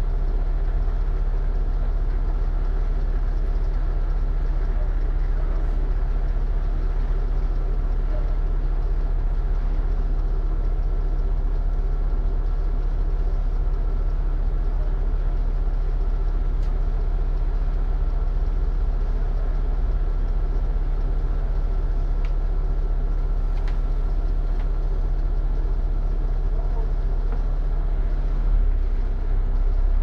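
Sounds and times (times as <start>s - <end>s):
bus engine idling: 0.0s - 30.0s.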